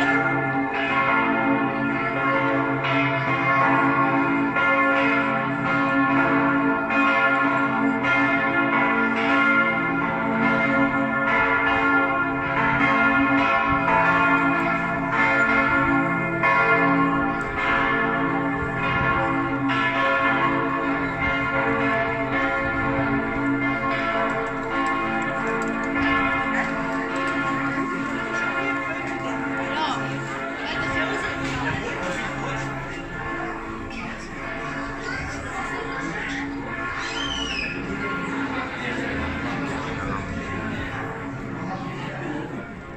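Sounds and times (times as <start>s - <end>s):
church bells pealing: 0.0s - 42.9s.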